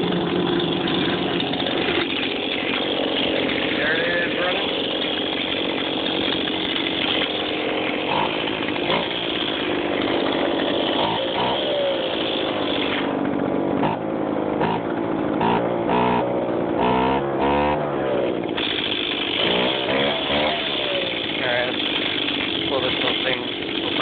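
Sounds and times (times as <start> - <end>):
leaf blower running: 0.0 - 24.0.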